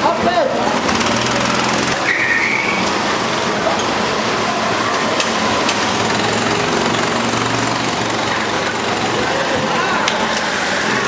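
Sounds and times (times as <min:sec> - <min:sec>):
go-kart engines rattling: 0:00.0 - 0:11.0.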